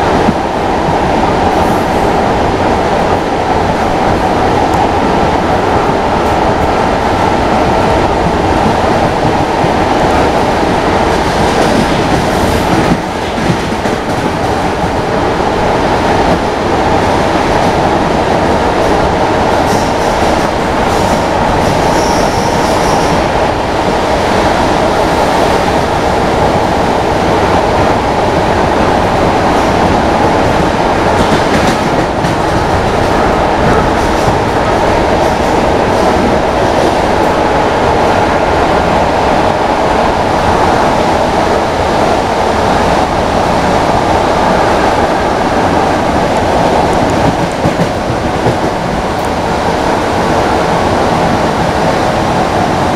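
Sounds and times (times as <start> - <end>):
train rumble inside coach: 0.0 - 52.9.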